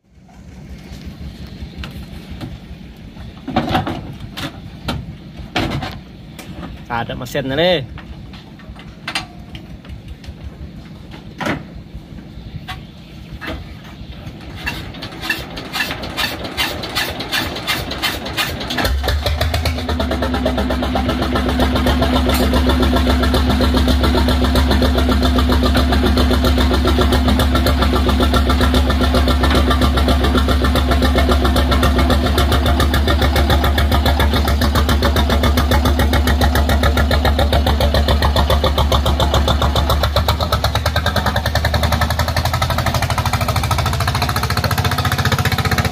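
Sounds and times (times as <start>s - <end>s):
diesel boat engine starting: 0.0s - 45.9s.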